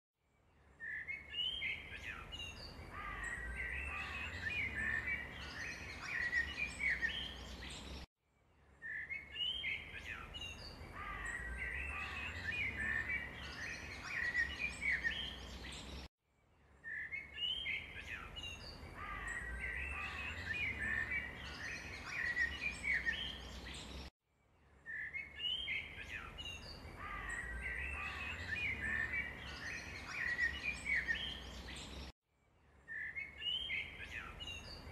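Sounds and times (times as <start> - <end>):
birds chirping and twittering: 0.4 - 34.9.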